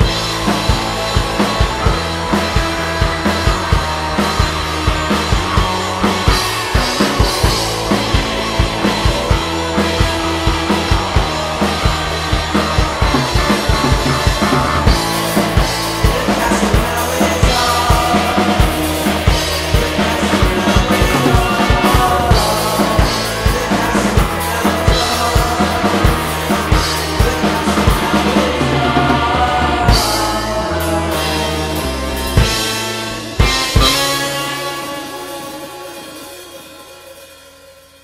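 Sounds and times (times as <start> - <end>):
drum kit beat: 0.0 - 37.0
low bass notes: 0.0 - 37.1
punk rock band playing: 0.0 - 38.0.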